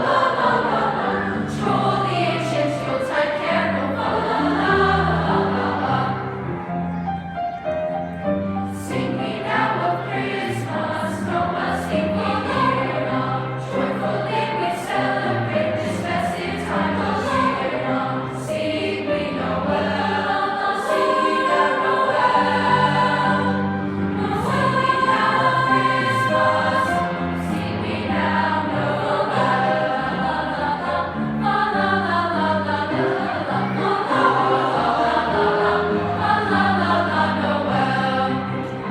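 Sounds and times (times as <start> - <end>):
young choir singing in harmony: 0.0 - 38.9.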